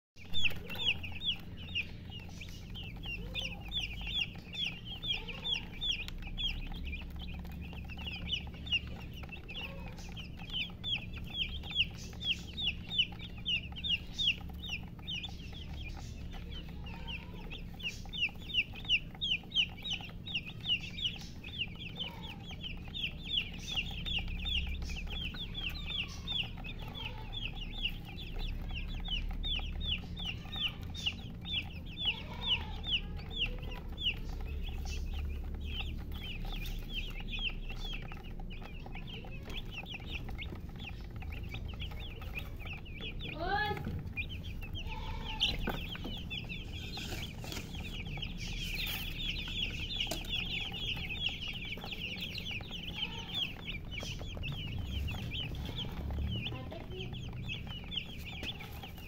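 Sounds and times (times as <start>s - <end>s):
chicks peeping: 0.2s - 59.0s.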